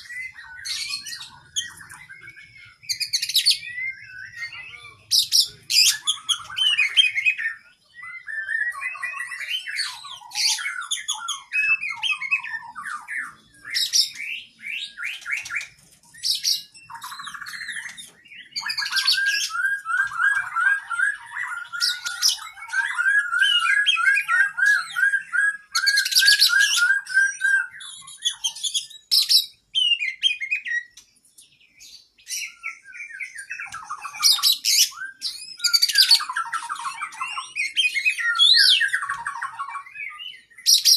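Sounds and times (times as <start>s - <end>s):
bird singing varied song: 0.0s - 40.9s
rapid bird trill: 0.0s - 40.9s.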